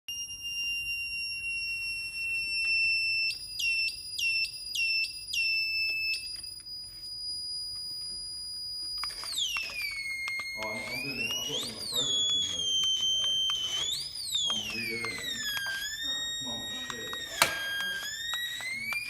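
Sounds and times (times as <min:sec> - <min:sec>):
high electronic tone: 0:00.1 - 0:19.0.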